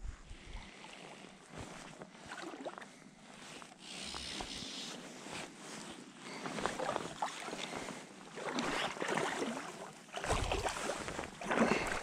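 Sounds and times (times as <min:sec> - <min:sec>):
water splashing and sloshing: 0:00.4 - 0:03.8, 0:05.1 - 0:12.0.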